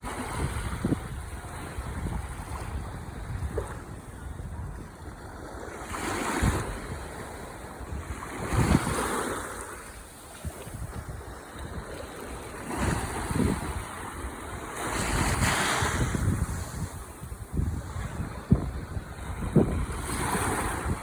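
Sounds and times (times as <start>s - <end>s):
ocean waves washing ashore: 0.0s - 21.0s
wind rumble on microphone: 0.0s - 21.0s.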